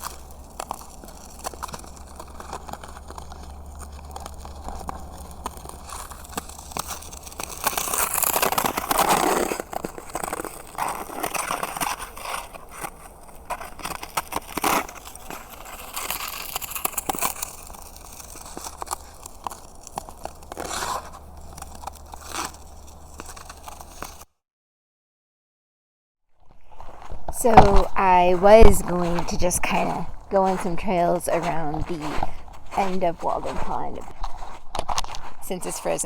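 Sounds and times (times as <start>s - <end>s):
footsteps crunching through snow: 0.0s - 24.2s, 26.7s - 36.0s.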